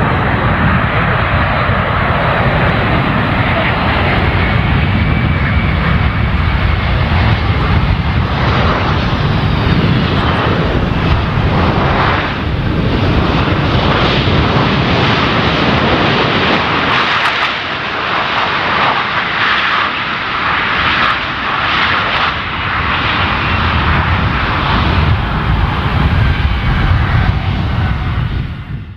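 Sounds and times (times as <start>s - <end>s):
jet engine rumble: 0.0s - 28.9s.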